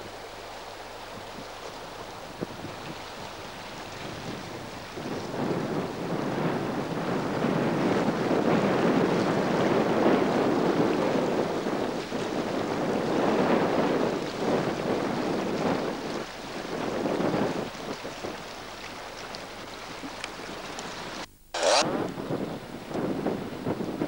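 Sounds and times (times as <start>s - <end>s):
wind buffeting microphone: 1.0s - 21.2s, 21.8s - 24.0s.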